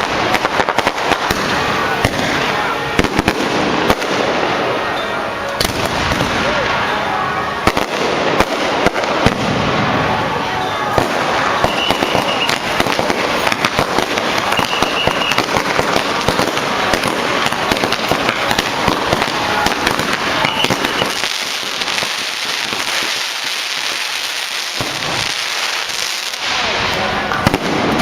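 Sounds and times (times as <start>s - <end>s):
firecrackers crackling: 0.0s - 28.0s.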